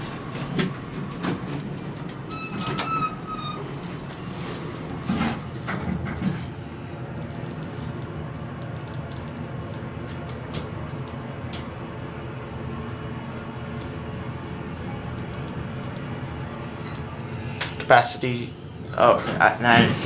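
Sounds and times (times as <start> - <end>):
elevator car rumbling: 0.0 - 20.0.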